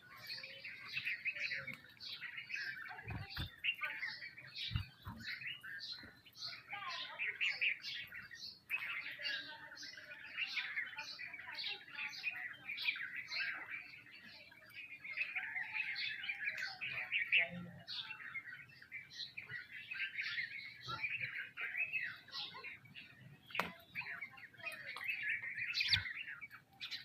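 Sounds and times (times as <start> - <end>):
sparrows chirping: 0.0 - 27.0.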